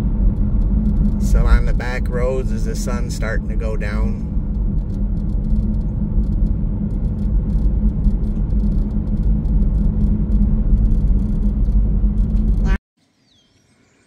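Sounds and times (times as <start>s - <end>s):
car interior road rumble: 0.0s - 12.8s.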